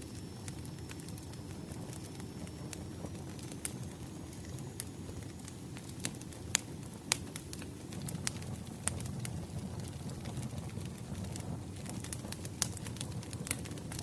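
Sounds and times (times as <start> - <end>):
fire crackles and pops: 0.0 - 14.0
wood fire burning: 0.0 - 14.0.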